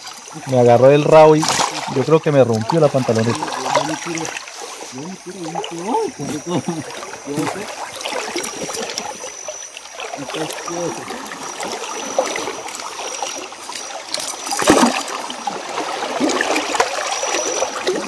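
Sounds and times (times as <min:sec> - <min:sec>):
river water trickling and splashing: 0:00.0 - 0:18.0.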